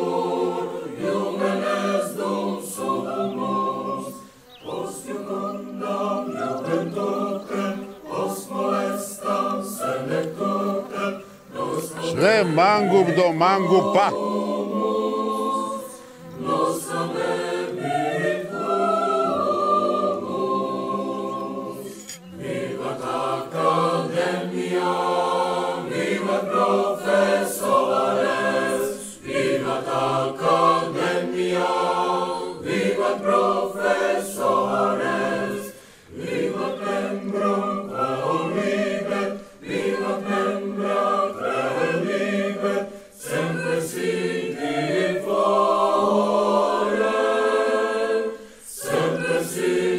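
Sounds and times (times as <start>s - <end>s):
young men singing in chorus: 0.0s - 49.9s.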